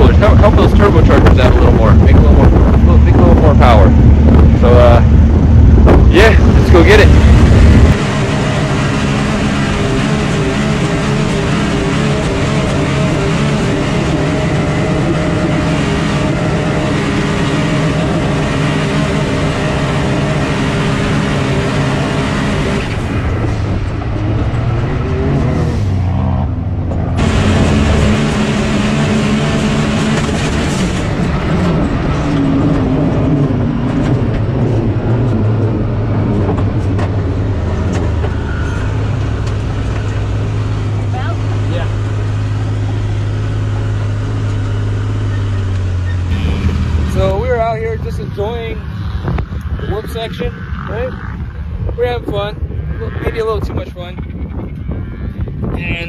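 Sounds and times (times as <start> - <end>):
engine running hard: 0.0 - 56.0.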